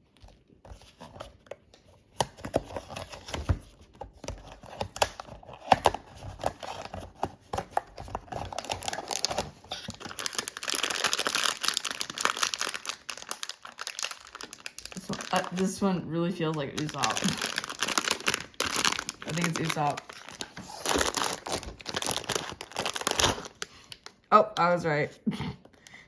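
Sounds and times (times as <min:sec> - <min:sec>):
packaging tearing and rustling: 0:00.2 - 0:15.8, 0:16.5 - 0:24.2
wrapper crinkling: 0:02.4 - 0:24.6.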